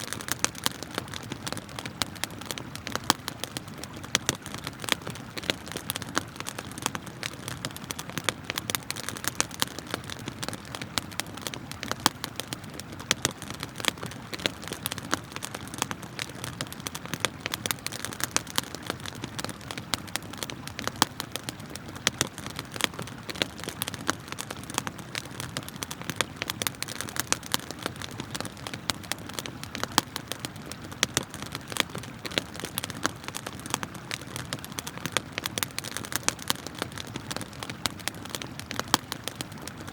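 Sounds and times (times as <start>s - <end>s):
campfire crackling and popping: 0.0s - 39.9s
river water flowing: 0.0s - 39.9s.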